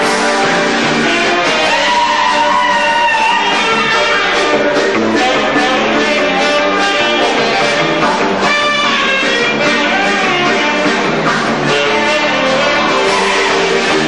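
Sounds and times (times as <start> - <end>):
guitar playing: 0.0 - 14.0
live dance band music: 0.0 - 14.0.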